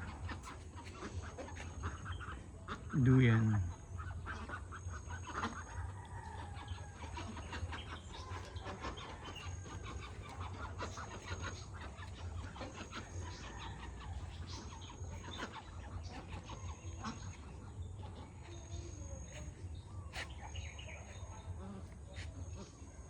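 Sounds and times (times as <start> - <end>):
chickens clucking: 0.0 - 23.0
steady low hum: 0.0 - 23.0.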